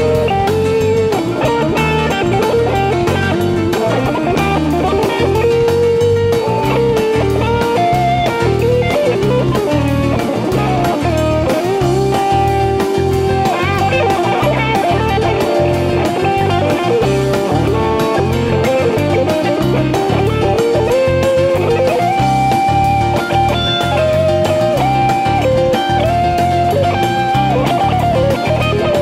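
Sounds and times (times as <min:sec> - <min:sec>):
bass and drum groove: 0:00.0 - 0:29.0
electric guitar lead: 0:00.0 - 0:29.0.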